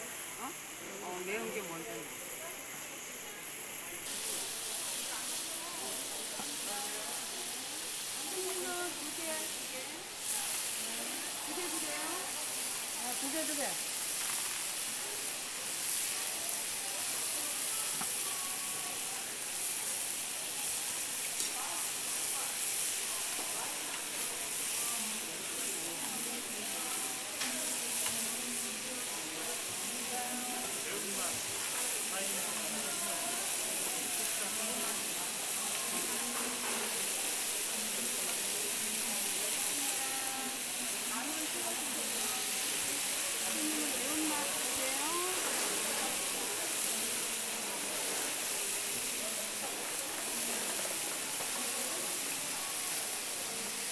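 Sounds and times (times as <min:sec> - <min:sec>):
patties sizzling on a griddle: 0:00.0 - 0:53.9.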